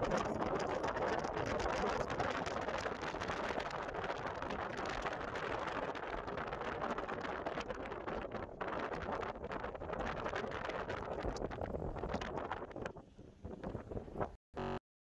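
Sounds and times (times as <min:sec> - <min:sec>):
sea washing along hull: 0:00.0 - 0:14.4
wind on microphone: 0:00.0 - 0:14.4.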